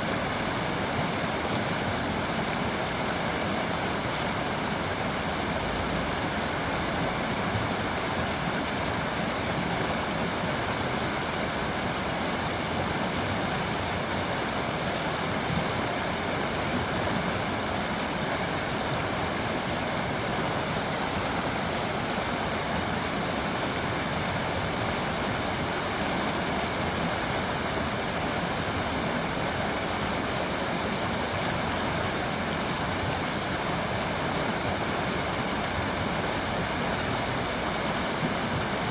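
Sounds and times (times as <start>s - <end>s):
creek water flowing over stones: 0.0s - 38.9s.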